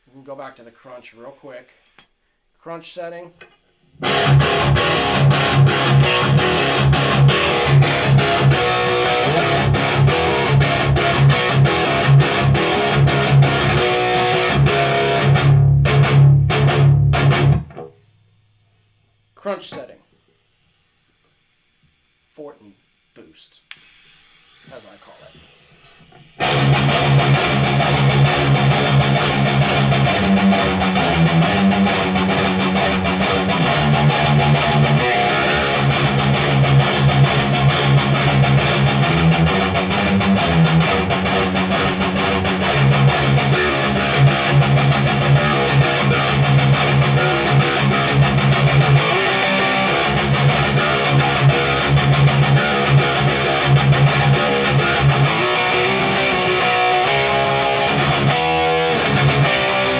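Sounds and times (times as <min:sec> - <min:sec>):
high-gain electric guitar riffing: 0:04.0 - 0:18.0, 0:24.7 - 0:59.9.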